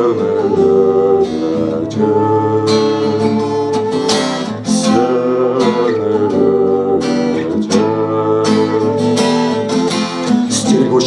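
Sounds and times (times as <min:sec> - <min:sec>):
acoustic guitar strumming: 0:00.0 - 0:11.0
person singing: 0:00.0 - 0:11.0.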